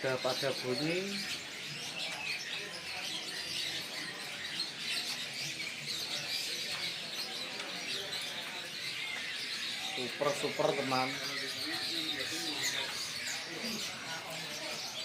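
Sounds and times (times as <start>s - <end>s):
songbirds chirping and twittering: 0.0s - 15.0s
young birds singing: 0.0s - 15.0s.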